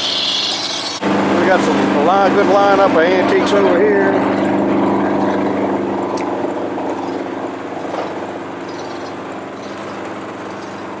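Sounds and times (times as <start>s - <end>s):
engine running at low speed: 0.0s - 11.0s.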